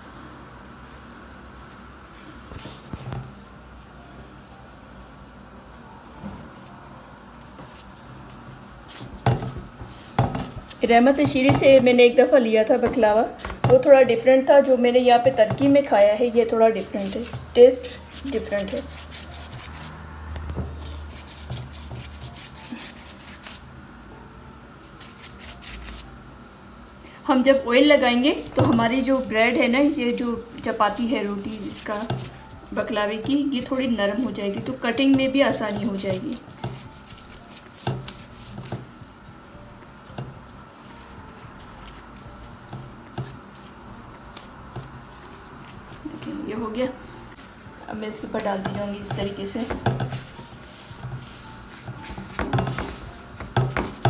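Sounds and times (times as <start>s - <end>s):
pastry brush rubbing dough: 0.1s - 23.7s, 24.8s - 26.2s, 27.4s - 54.0s.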